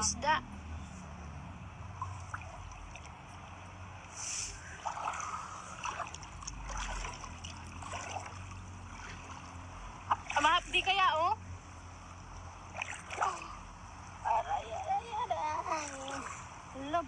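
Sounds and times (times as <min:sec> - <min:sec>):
seawater lapping: 0:01.7 - 0:17.0.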